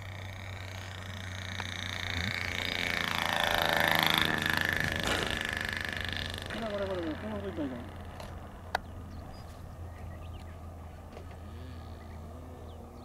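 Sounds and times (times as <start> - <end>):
model airplane motor whining: 0.0 - 13.0.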